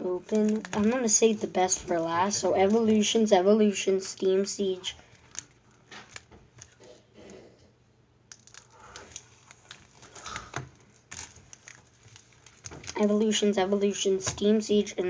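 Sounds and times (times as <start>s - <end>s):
foil wrappers crinkling: 0.0s - 3.4s, 4.0s - 6.9s, 8.3s - 15.0s.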